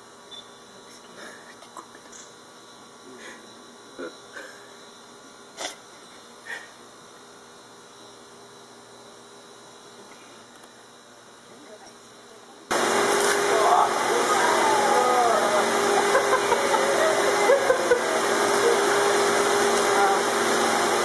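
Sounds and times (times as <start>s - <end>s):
electrical room hum: 0.0s - 21.0s.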